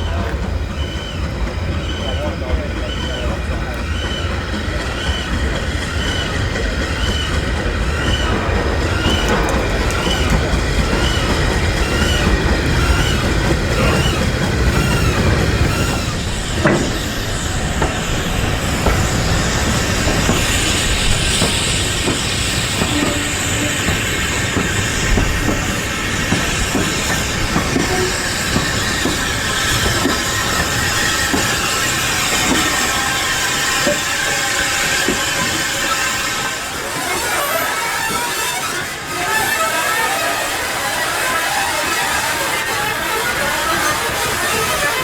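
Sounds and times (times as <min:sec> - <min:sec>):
high wheel squeal: 0:00.0 - 0:45.0
steam train rumbling: 0:00.0 - 0:45.0
wheels knocking over rail joints: 0:04.9 - 0:45.0.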